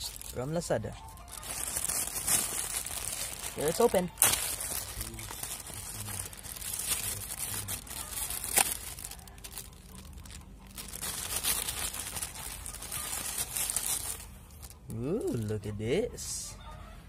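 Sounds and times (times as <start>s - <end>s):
plastic bag crinkling: 0.0s - 15.5s.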